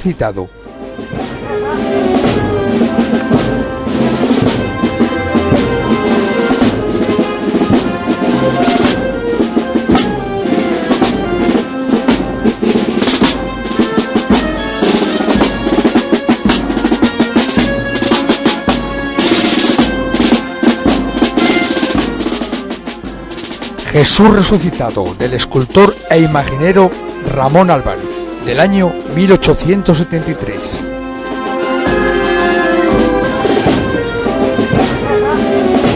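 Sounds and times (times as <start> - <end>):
held instrument notes: 0.0 - 35.9
snare drum rolls: 1.0 - 28.6, 30.4 - 35.9.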